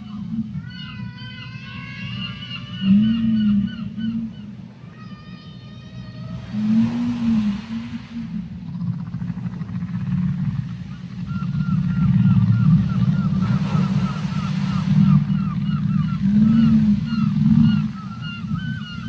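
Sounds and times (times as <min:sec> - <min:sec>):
deep rumble of water: 0:00.0 - 0:19.0
whale calls underwater: 0:00.0 - 0:19.0
whale moans: 0:00.0 - 0:19.0.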